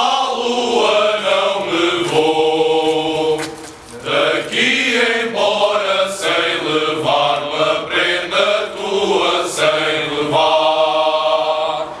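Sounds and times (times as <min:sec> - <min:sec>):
male chorus singing: 0:00.0 - 0:12.0.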